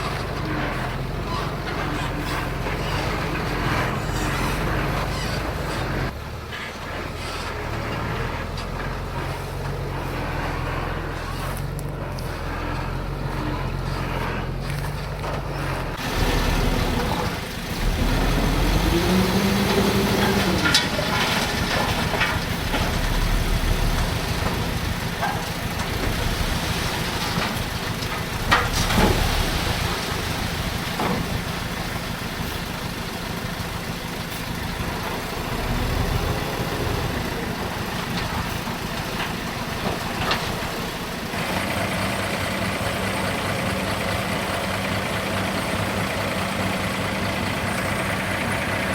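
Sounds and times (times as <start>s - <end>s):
heavy diesel machinery engine: 0.0s - 48.9s.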